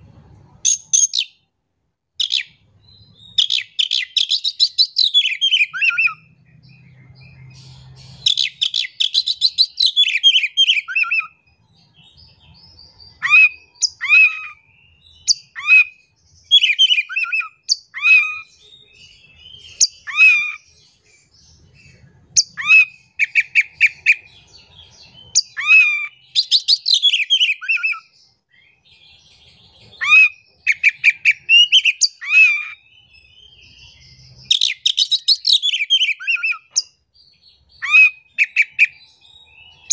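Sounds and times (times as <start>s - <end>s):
bird singing whistled notes: 0.5s - 1.5s, 2.2s - 39.9s.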